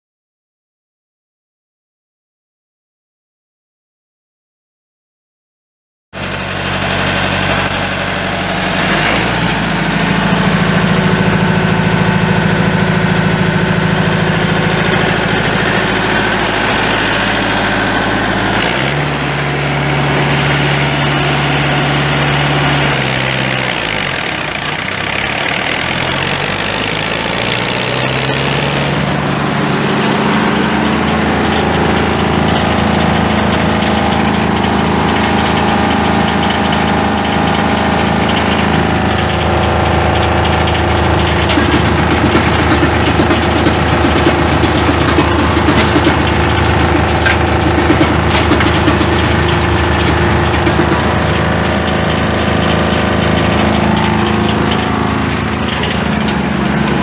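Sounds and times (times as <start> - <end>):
wood chipper diesel engine running: 6.2 - 57.0.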